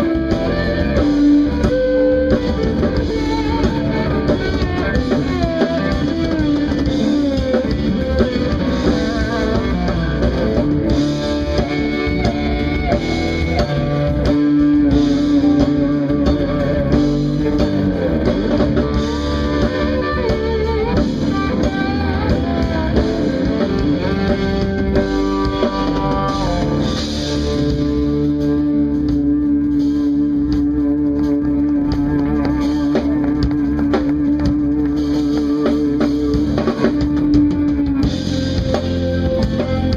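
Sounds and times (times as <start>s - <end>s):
drum kit: 0.0s - 39.9s
electric bass: 0.0s - 39.9s
electric guitar melody: 0.0s - 39.9s.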